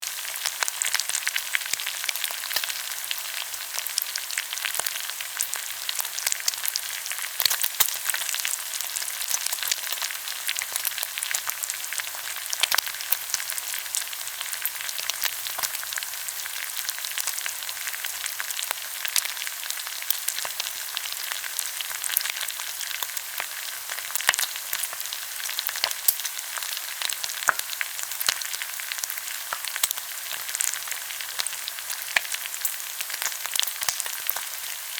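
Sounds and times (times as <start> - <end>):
meat sizzling on grill: 0.0 - 34.9.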